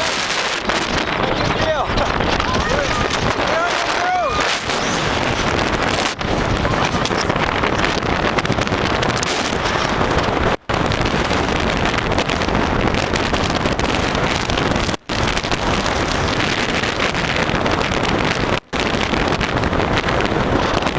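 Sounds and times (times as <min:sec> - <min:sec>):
strong wind on microphone: 0:00.0 - 0:20.9.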